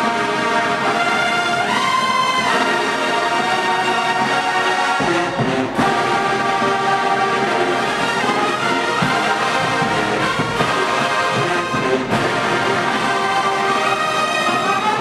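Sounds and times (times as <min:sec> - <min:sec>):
brass band chords: 0:00.0 - 0:15.0
marching drums and cymbals: 0:00.0 - 0:15.0
rising brass glide: 0:00.0 - 0:15.0.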